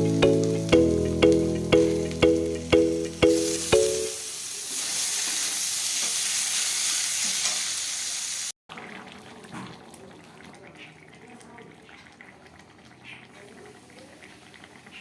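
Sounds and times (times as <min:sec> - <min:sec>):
curry sizzling in a pan: 0:00.0 - 0:15.0.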